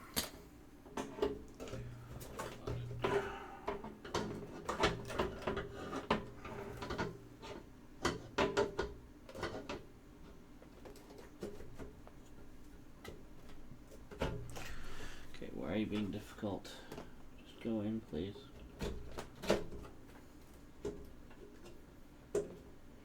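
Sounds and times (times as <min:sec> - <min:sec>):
hard drive knocking and scraping: 0:00.9 - 0:23.0.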